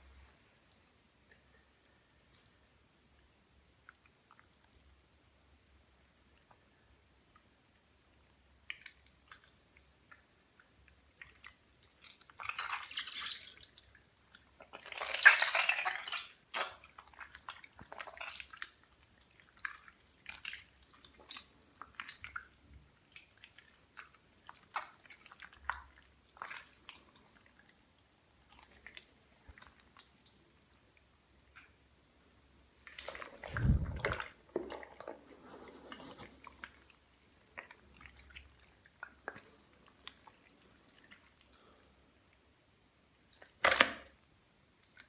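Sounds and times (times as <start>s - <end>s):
slime squelching and dripping: 0.5s - 45.0s.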